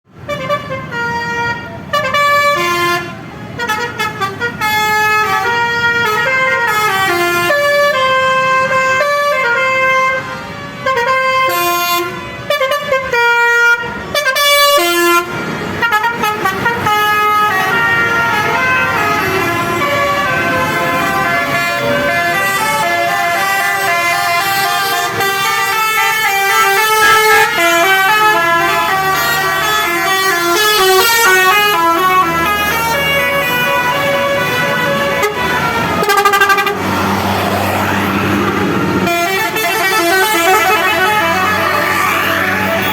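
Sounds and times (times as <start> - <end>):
musical air horns: 0.2 - 42.9.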